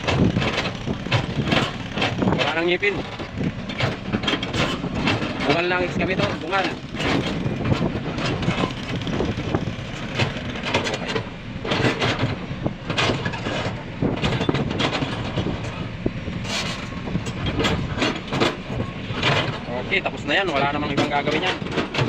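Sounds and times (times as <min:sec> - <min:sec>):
bucket clanking and scraping: 0:00.0 - 0:22.0
excavator diesel engine running: 0:00.0 - 0:22.0.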